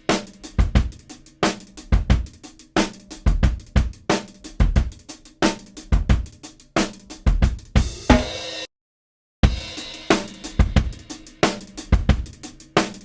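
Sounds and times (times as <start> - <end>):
drum kit groove: 0.0 - 8.7, 9.4 - 13.0.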